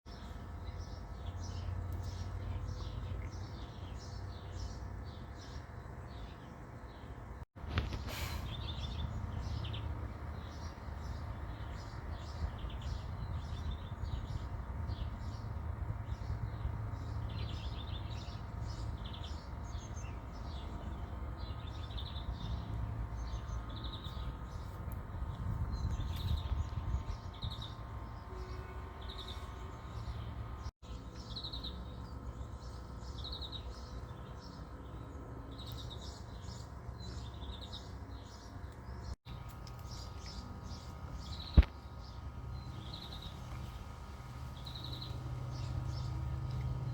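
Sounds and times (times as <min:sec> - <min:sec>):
small birds chirping: 0:00.1 - 0:46.9.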